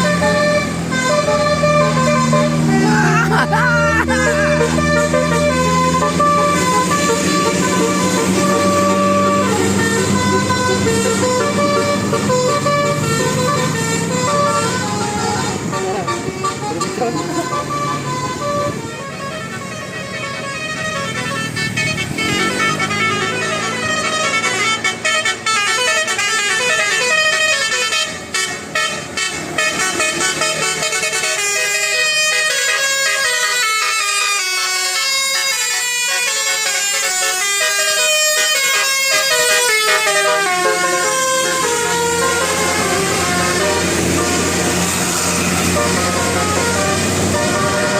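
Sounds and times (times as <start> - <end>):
bus engine running: 0.0 - 47.9
multi-tone musical bus horn: 0.0 - 47.9.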